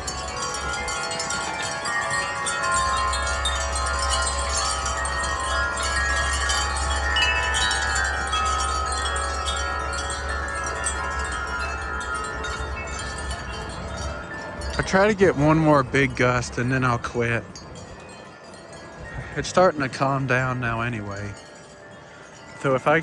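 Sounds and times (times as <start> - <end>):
wind chimes ringing: 0.0 - 23.0.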